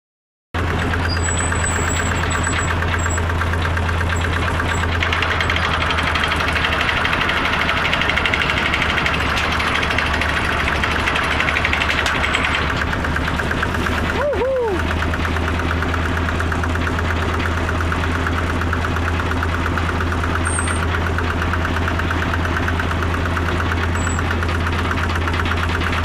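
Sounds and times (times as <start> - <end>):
machine engine humming and pulsing: 0.6 - 26.0.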